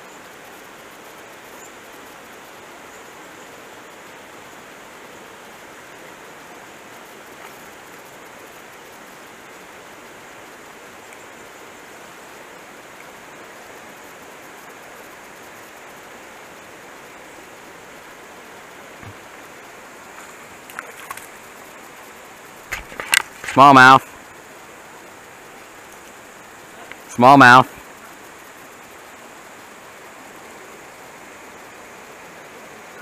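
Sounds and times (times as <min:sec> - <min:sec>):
creek flowing: 0:00.1 - 0:33.0.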